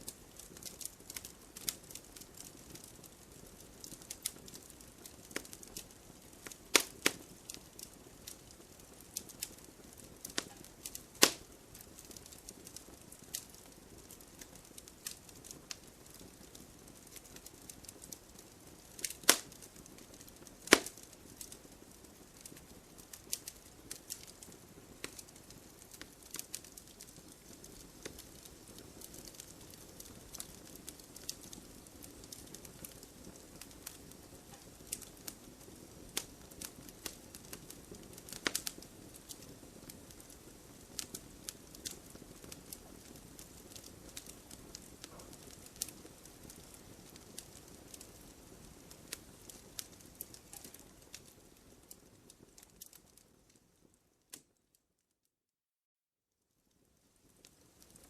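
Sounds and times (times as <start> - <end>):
firewood crackling and popping: 0.0 - 54.7, 56.7 - 58.0
faint steady hiss: 0.0 - 55.2, 56.4 - 58.0.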